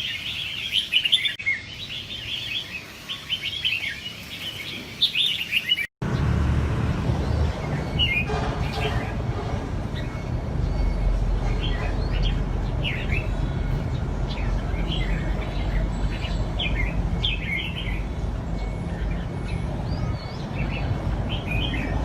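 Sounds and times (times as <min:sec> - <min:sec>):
bird song warbling phrases: 0:00.0 - 0:22.0.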